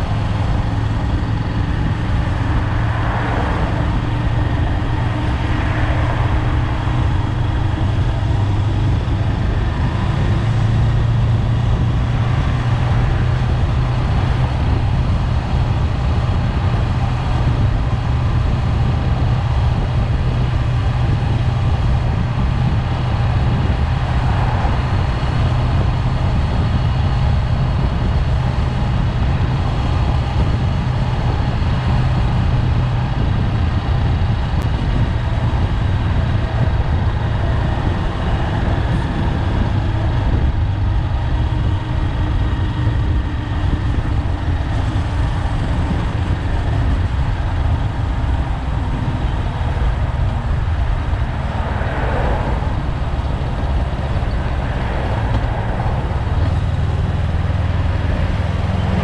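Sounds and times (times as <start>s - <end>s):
motorcycle engine rumble: 0.0s - 59.0s.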